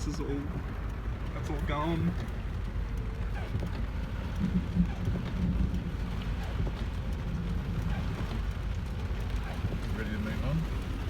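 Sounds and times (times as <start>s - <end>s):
low rumble: 0.0s - 11.0s
rain falling on a car: 0.0s - 11.0s.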